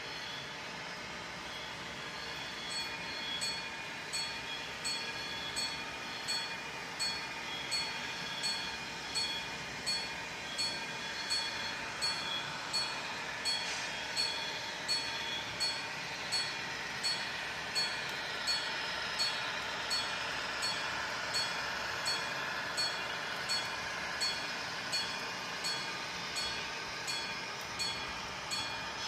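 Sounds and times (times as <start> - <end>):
model train running: 0.0 - 29.0.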